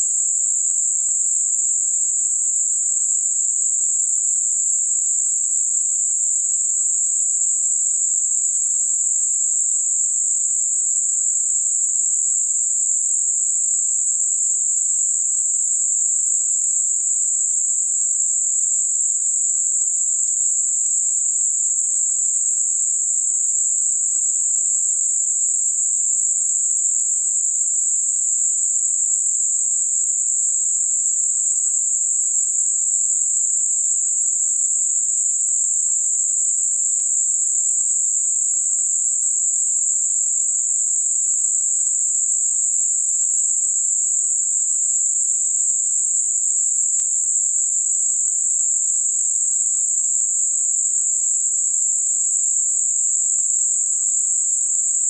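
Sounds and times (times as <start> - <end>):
steady high-pitched hiss: 0.0 - 55.0.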